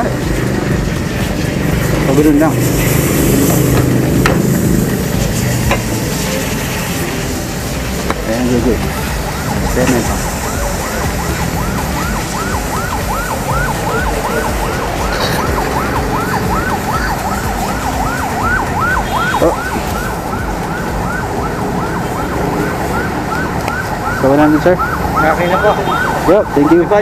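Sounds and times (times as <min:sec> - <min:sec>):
electronic siren yelping: 0:02.1 - 0:07.6, 0:08.4 - 0:27.0.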